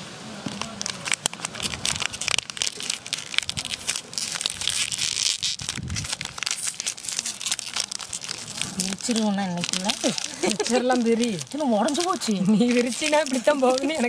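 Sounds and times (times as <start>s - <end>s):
plastic packet tearing and crinkling: 0.4s - 14.0s.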